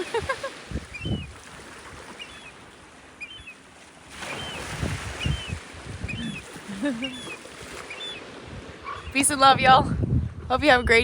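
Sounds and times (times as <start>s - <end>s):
gulls calling: 0.0s - 1.4s, 2.0s - 9.5s.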